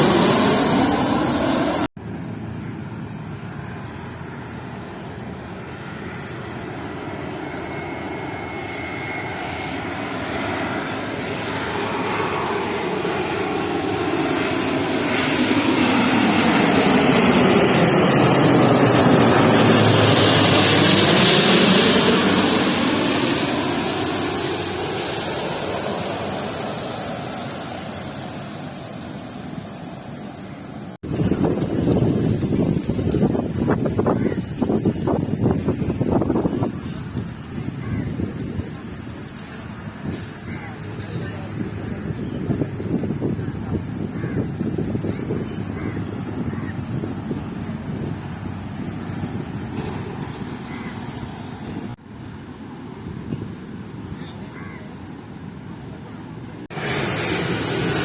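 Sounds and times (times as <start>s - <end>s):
airliner passing overhead: 0.0s - 58.0s.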